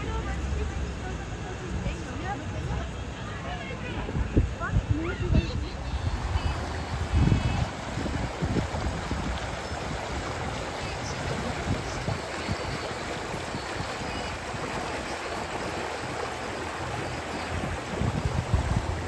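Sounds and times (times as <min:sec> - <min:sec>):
river water babbling over stones: 0:00.0 - 0:19.0.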